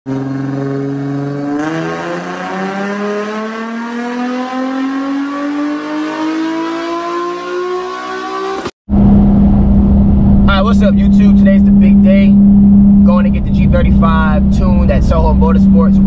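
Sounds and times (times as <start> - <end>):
car engine revving at full throttle: 0.1 - 16.0.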